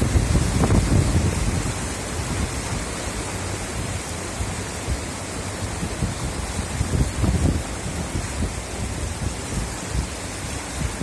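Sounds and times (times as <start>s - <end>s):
river rushing and churning: 0.0s - 11.0s
wind buffeting microphone: 0.0s - 11.0s.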